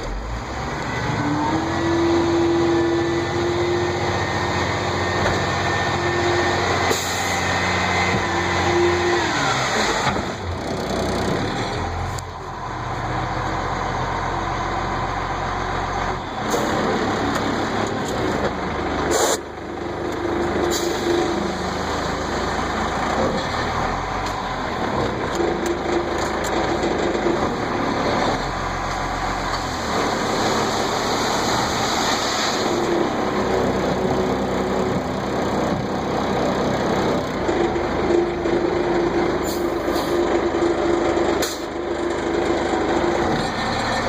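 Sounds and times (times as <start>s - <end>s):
dump truck running: 0.0s - 44.0s.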